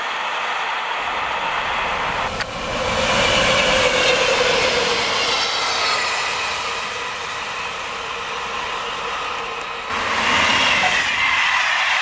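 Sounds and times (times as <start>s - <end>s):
diesel locomotive engines: 0.0s - 12.0s
freight train rolling past: 0.0s - 12.0s
steady whine: 0.0s - 12.0s
wheel and rail noise: 0.0s - 12.0s.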